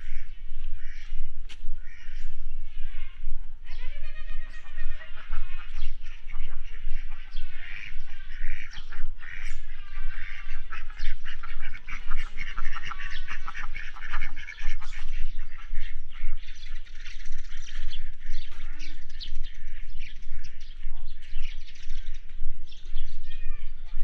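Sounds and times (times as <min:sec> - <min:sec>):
ducks quacking: 0:00.0 - 0:24.0.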